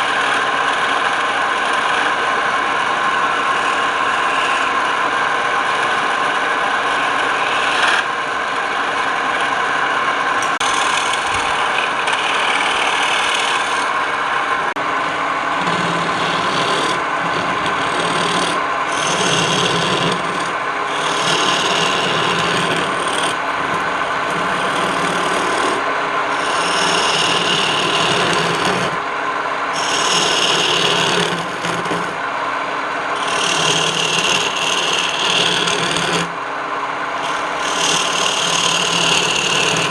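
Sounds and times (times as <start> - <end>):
hand tool scraping spinning wood: 0.0 - 29.0, 29.7 - 32.3, 33.1 - 36.4, 37.2 - 39.9
wood lathe motor running: 0.0 - 29.1, 29.7 - 32.3, 33.1 - 36.4, 37.1 - 39.9.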